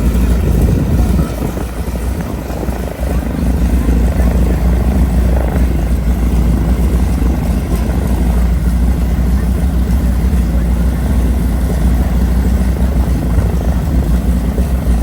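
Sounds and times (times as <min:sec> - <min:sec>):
propeller airplane engine droning: 0:00.0 - 0:15.0.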